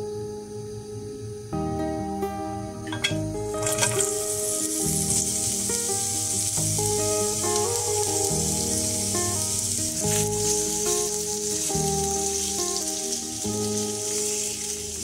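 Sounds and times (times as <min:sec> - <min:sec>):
background music: 0:00.0 - 0:15.0
onion sizzling in oil: 0:02.8 - 0:15.0.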